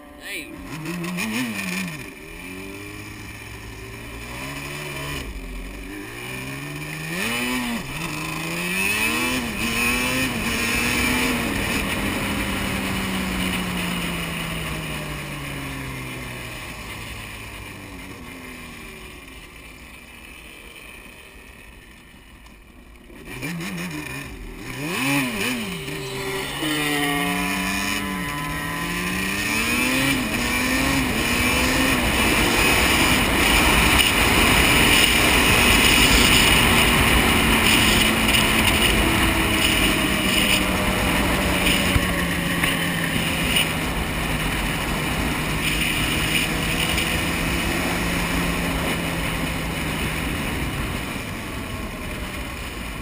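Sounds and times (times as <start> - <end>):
two-stroke engine accelerating: 0.0 - 53.0.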